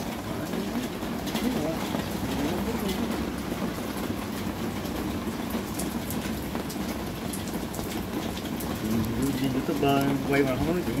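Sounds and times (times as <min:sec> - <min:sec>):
raindrops ticking: 0:00.0 - 0:11.0
steady rain: 0:00.0 - 0:11.0.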